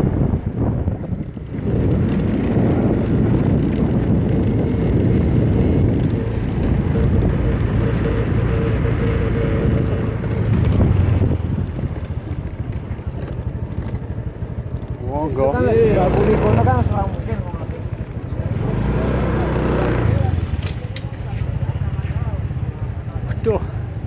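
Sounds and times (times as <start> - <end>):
vehicle running: 0.0 - 24.0
wind rumbling on microphone: 0.0 - 24.0.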